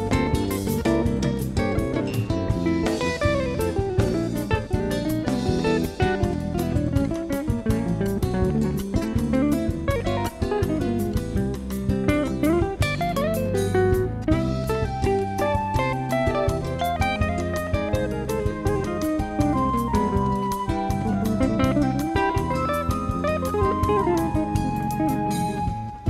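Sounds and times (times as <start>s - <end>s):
electric guitar playing quick run: 0.0s - 26.0s.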